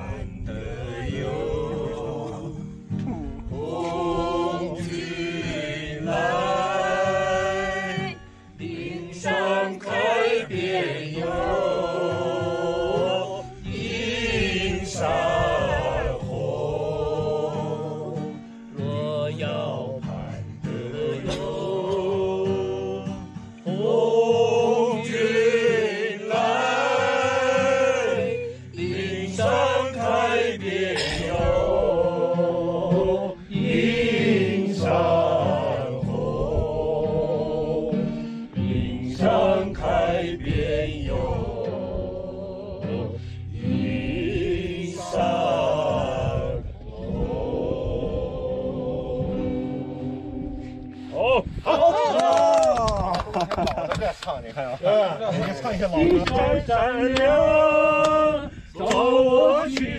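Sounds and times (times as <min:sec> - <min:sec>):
acoustic guitar: 0:00.0 - 0:59.9.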